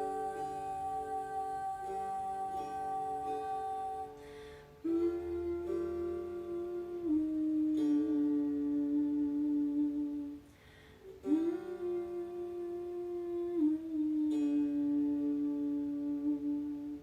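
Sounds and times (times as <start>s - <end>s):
person humming held notes: 0.0s - 17.0s.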